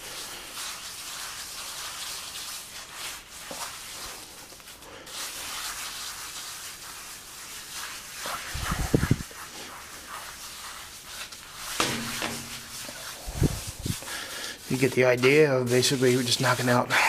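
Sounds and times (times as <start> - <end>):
sponge float scrubbing cement: 0.0 - 17.0.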